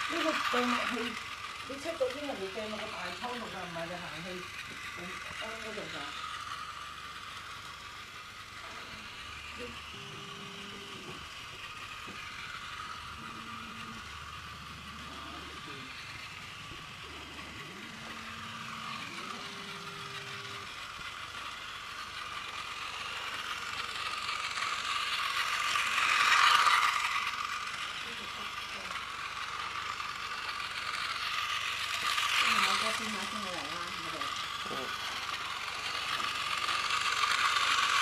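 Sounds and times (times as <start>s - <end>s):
toy train motor whirring: 0.0s - 38.0s.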